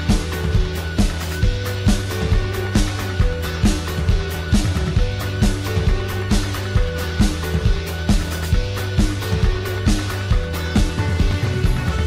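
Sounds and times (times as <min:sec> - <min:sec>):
music with steady drum beat: 0:00.0 - 0:12.0.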